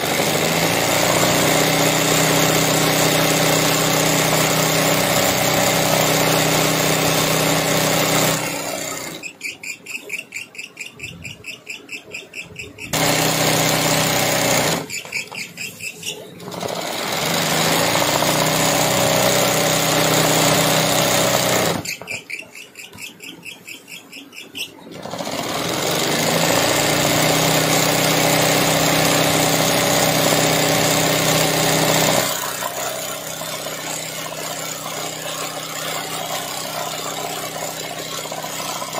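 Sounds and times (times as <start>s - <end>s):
sewing machine stitching: 0.0s - 10.3s, 12.1s - 38.9s.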